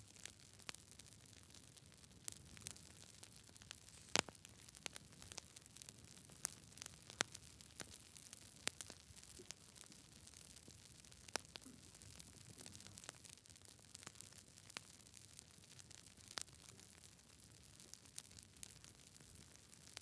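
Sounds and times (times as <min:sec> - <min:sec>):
faint steady hiss: 0:00.0 - 0:20.0
campfire crackling: 0:00.1 - 0:20.0.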